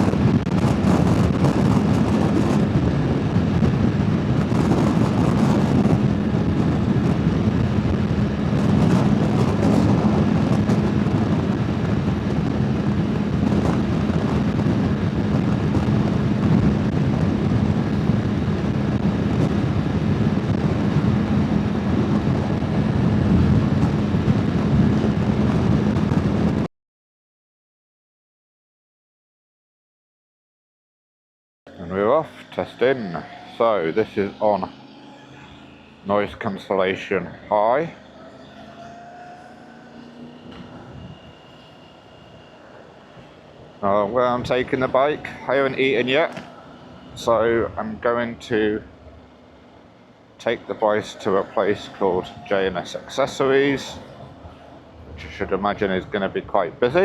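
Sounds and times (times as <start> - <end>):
motorbike engine hum: 0.0 - 26.7, 31.7 - 57.0
wind rush: 0.0 - 26.7, 31.8 - 57.0.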